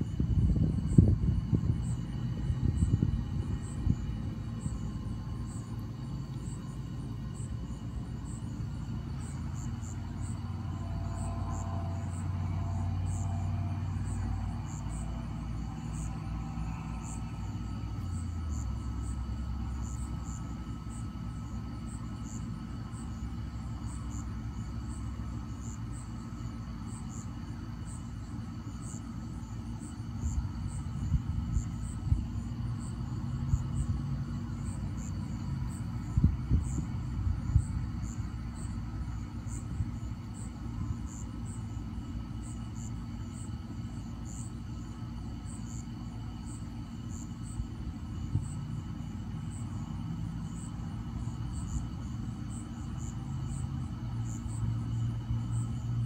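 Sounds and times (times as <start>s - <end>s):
insects chirping: 0.0s - 56.0s
low steady rumble: 0.0s - 56.0s.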